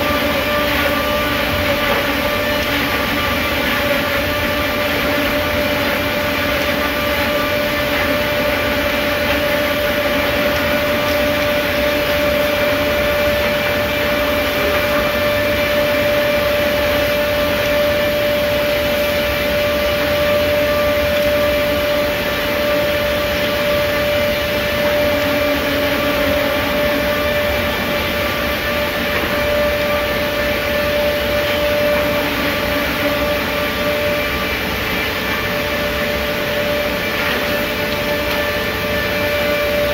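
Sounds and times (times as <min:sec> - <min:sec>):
noisy machine bed: 0:00.0 - 0:39.9
saw unit mechanical whine: 0:00.0 - 0:39.9.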